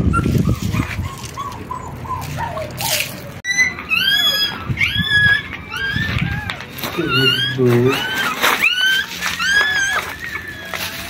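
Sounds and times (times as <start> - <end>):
puppies squealing: 0.0 - 11.0.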